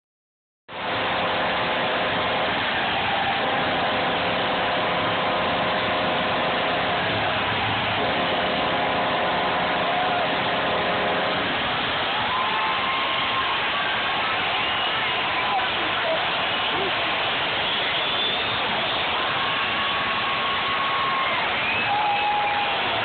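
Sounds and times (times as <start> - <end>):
crowd cheering: 0.8 - 23.0.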